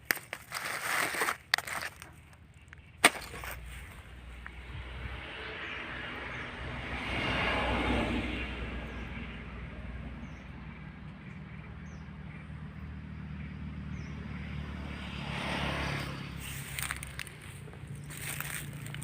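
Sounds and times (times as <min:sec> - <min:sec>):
traffic engine hum: 0:00.0 - 0:19.0
vehicle passing: 0:03.2 - 0:19.0.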